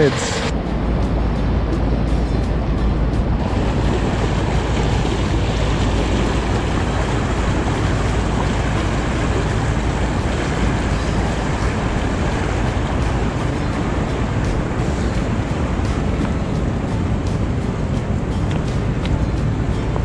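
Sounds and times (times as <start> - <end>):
river rushing over rocks: 2.0 - 20.0.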